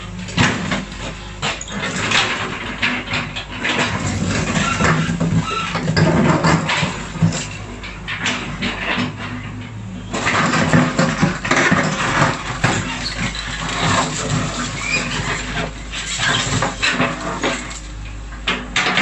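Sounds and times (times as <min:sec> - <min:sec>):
excavator engine running: 0:00.0 - 0:19.0
bucket scraping concrete: 0:00.2 - 0:09.2, 0:10.0 - 0:17.8
concrete chunks clattering: 0:00.2 - 0:17.9.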